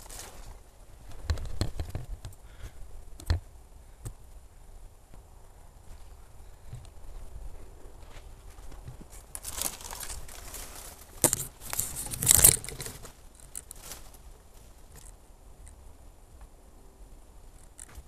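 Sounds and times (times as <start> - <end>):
dry fronds rustling and crackling: 0.0 - 16.6.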